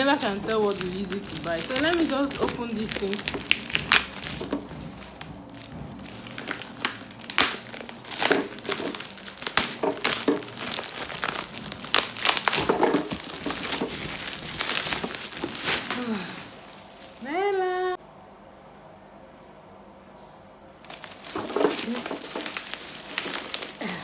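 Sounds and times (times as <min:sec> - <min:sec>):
plastic and cardboard crinkling: 0:00.0 - 0:17.9, 0:20.8 - 0:24.0.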